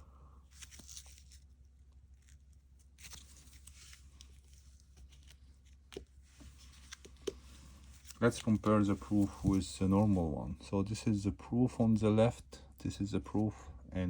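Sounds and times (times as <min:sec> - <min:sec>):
soft rustling of coin holders: 0:00.4 - 0:13.5.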